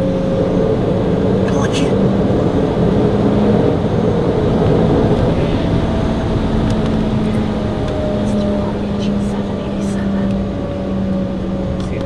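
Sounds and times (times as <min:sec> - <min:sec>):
jet cabin engine hum: 0:00.0 - 0:12.0.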